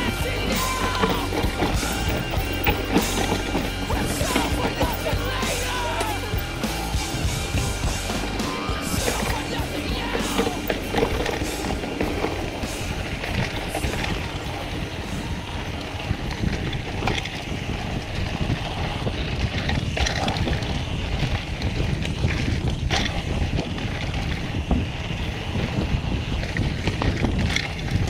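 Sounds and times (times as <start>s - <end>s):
bike rattling over bumps: 0.0s - 28.0s
tyres rumbling on dirt: 0.0s - 28.0s
wind buffeting microphone: 0.0s - 28.0s.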